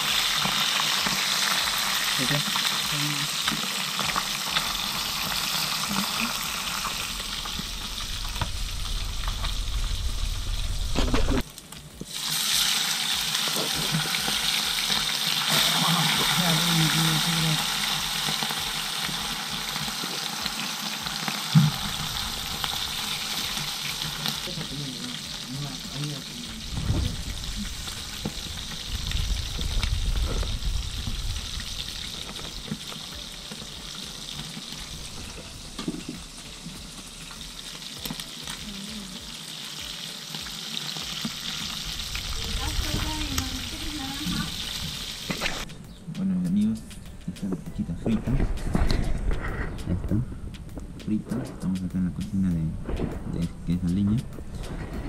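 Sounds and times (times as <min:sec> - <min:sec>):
fish sizzling in hot oil: 0:00.0 - 0:45.7.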